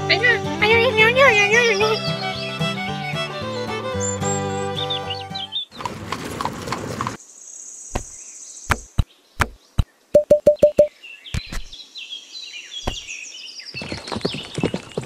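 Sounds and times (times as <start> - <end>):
birds chirping: 0.1 - 6.0, 7.6 - 15.0.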